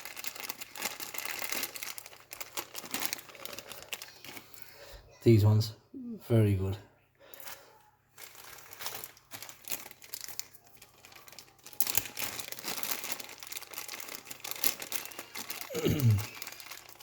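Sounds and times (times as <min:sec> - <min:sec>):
plastic packaging crinkling: 0:00.0 - 0:04.9, 0:07.2 - 0:17.0.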